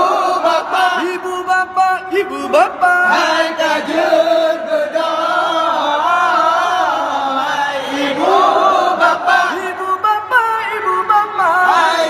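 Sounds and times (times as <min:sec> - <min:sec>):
men chanting a melody: 0:00.0 - 0:12.0.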